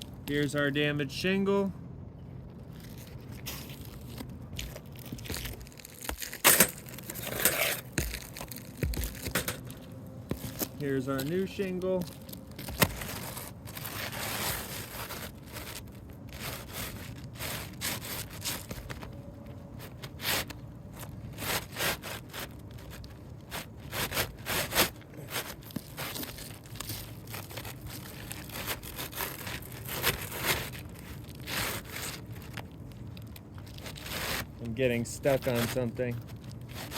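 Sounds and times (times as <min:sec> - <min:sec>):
roof shingle scraping: 0:02.5 - 0:36.9.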